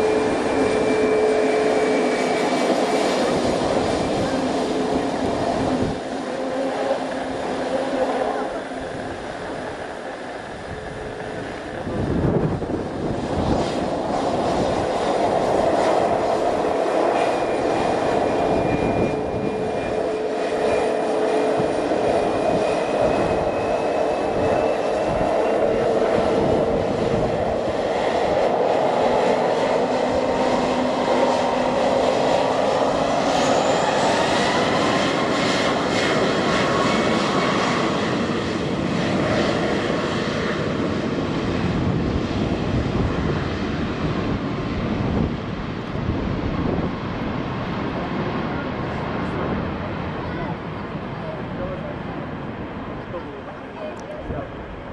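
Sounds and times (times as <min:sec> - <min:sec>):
high engine whines rising: 0:00.0 - 0:51.8
airliner engines roaring: 0:00.0 - 0:54.9.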